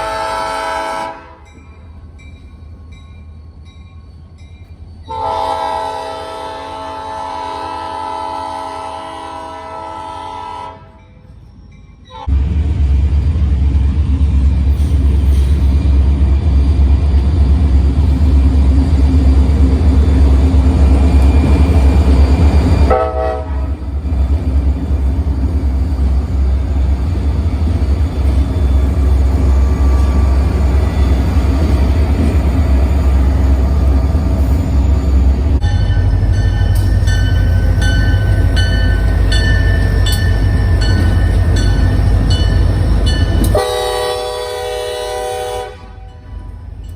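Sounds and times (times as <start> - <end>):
freight train rumble: 0.0 - 46.9.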